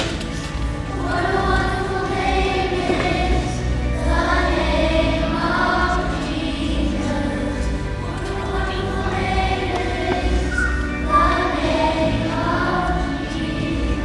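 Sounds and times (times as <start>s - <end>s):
choir singing: 0.0s - 14.0s
musical accompaniment: 0.0s - 14.0s.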